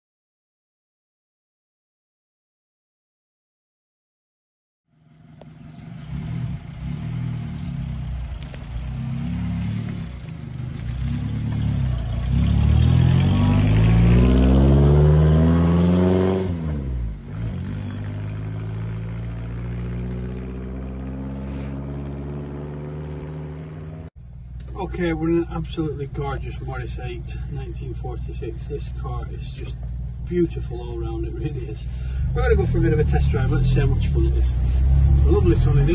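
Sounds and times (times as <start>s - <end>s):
car engine starting and accelerating: 5.0s - 35.9s.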